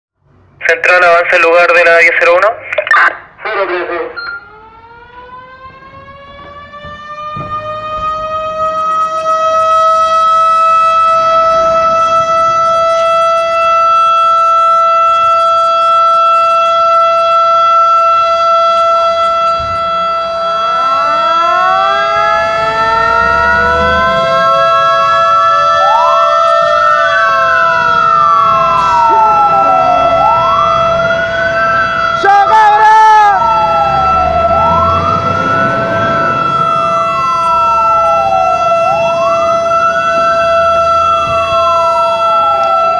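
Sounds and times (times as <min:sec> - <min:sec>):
fire engine siren wailing: 0:00.3 - 0:42.9
alarm siren steady wail: 0:00.6 - 0:42.9.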